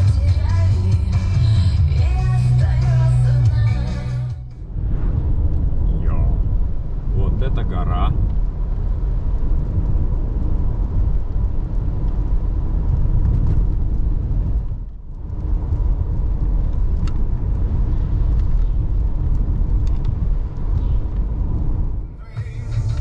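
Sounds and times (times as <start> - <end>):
car driving on road: 0.0 - 23.0.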